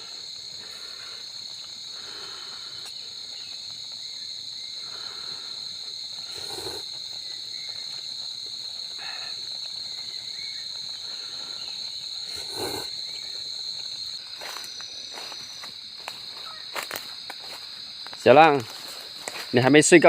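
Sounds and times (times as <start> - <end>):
crickets and insects chirring: 0.0 - 20.0.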